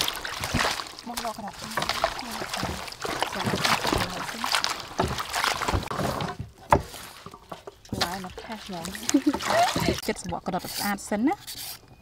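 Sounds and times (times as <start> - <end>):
greens rinsed in water basin: 0.0 - 11.8
water splashing and sloshing: 0.0 - 11.8.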